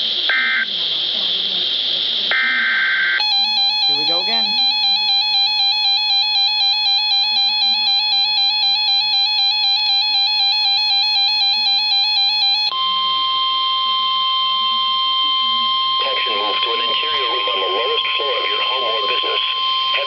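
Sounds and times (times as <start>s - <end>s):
emergency alert beeping: 2.3s - 20.0s
steady alarm tone: 2.3s - 20.0s.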